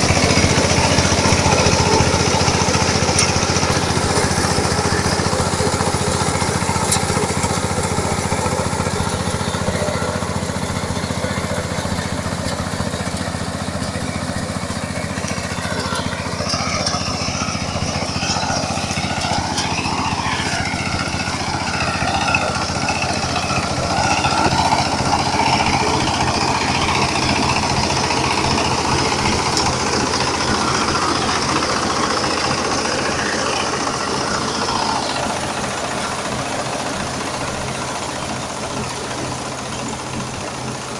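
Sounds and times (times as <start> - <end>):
combine harvester engine running: 0.0 - 40.9.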